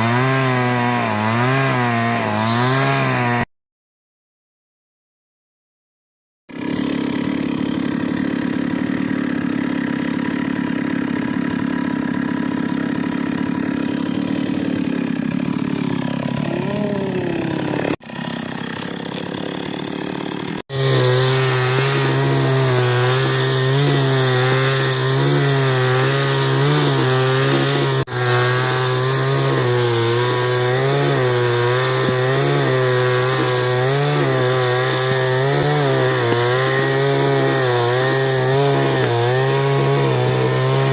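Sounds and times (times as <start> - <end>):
chainsaw cutting wood: 0.0 - 3.5, 6.5 - 40.9.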